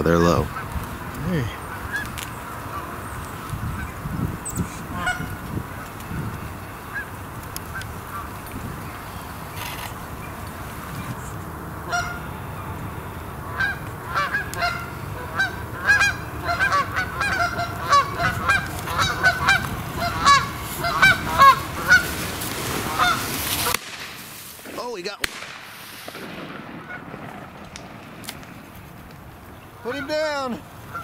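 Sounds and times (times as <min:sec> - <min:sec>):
geese honking: 0:00.0 - 0:25.0, 0:26.7 - 0:31.0.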